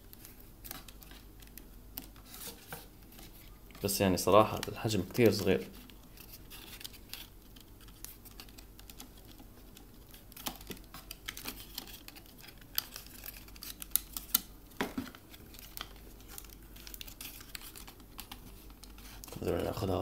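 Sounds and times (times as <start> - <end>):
cardboard rustling: 0.0 - 20.0.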